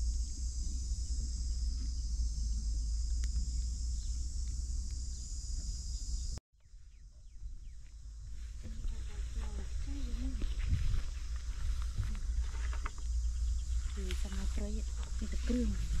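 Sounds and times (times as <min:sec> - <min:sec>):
low rumble: 0:00.0 - 0:06.4, 0:07.2 - 0:16.0
shrill insect chorus: 0:00.0 - 0:06.4, 0:07.2 - 0:16.0.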